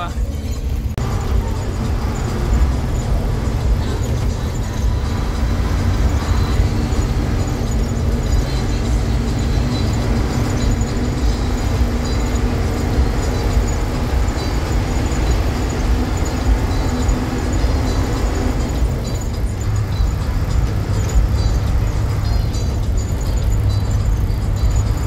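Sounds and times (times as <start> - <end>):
bus engine drone: 0.0 - 25.0
road rumble: 0.0 - 25.0.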